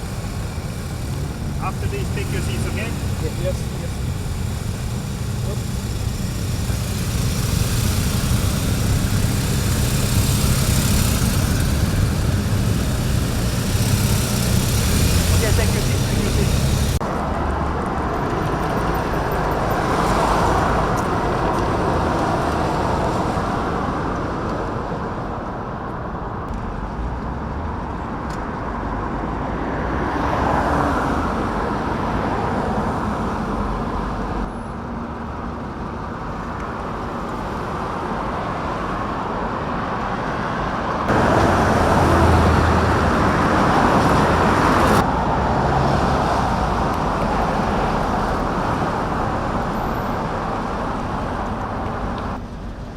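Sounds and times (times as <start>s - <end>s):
road noise: 0.0s - 52.9s
vehicle engines rumbling: 0.0s - 52.9s.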